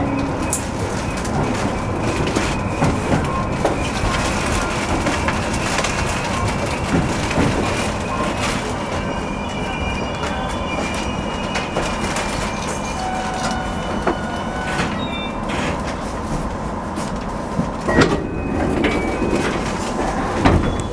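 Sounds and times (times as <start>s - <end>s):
electric train cab noise: 0.0s - 20.9s.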